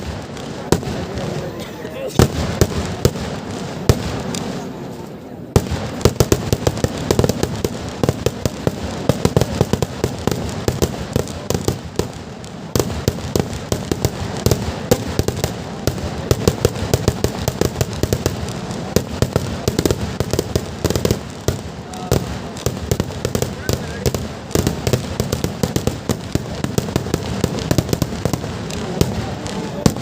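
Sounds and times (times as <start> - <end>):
firecracker bangs: 0.0 - 30.0.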